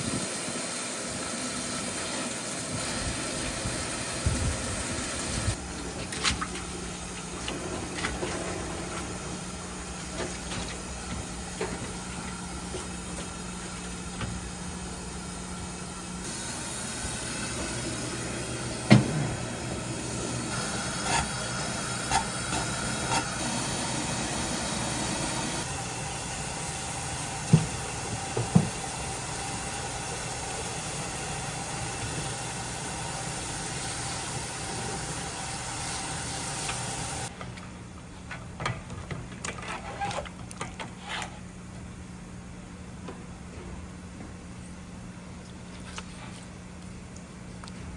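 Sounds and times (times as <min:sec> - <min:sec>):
kitchen hiss and hum: 0:00.0 - 0:47.9.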